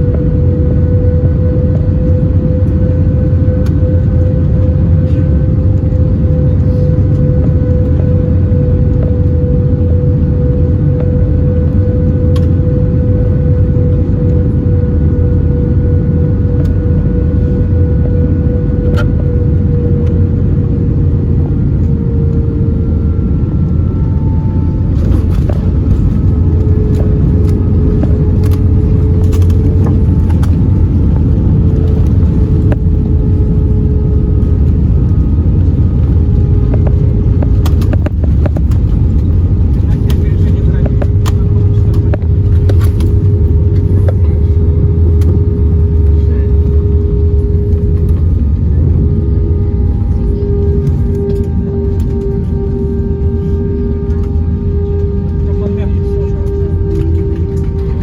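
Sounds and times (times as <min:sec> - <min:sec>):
aircraft cabin rumble: 0:00.0 - 0:58.0
jet engine hum: 0:00.0 - 0:58.0.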